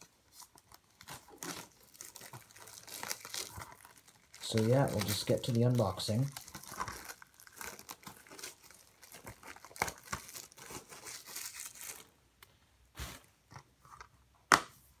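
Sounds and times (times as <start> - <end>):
plastic wrap crackling: 0.0 - 12.2.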